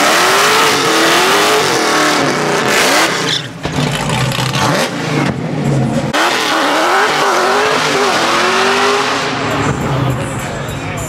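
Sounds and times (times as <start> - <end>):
car engine revving hard: 0.0 - 5.4, 6.1 - 9.7.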